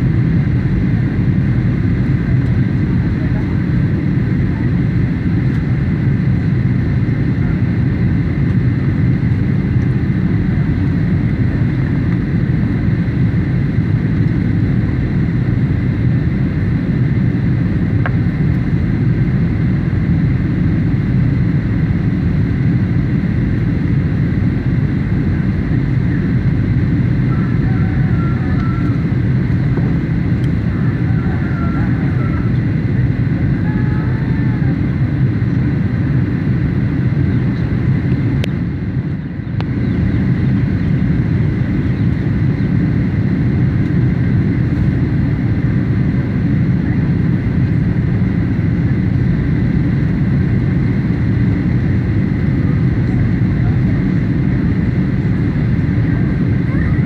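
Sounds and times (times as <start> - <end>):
airliner engines rumbling: 0.0 - 57.0.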